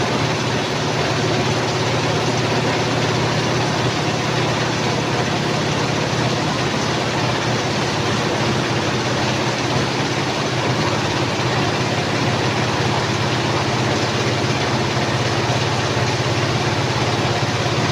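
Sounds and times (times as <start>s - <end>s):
washing machine motor hum: 0.0s - 17.9s.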